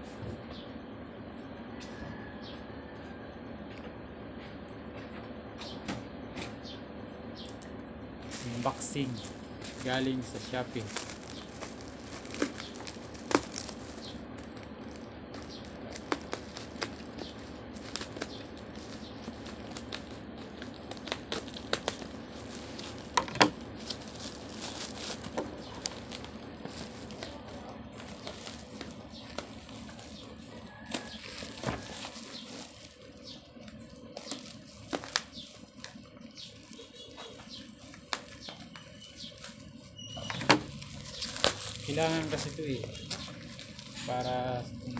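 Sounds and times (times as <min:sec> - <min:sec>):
plastic wrapping crinkling: 0:08.2 - 0:40.0, 0:40.6 - 0:44.9.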